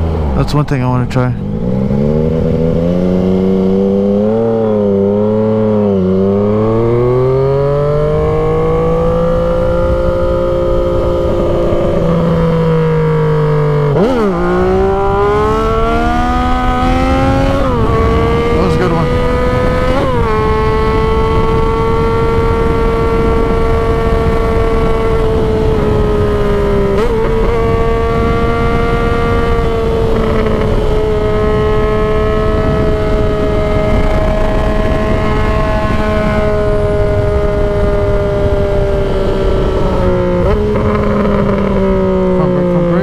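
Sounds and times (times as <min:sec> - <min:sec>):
motorcycle engine at high revs: 0:00.0 - 0:43.0
wind noise: 0:00.0 - 0:43.0.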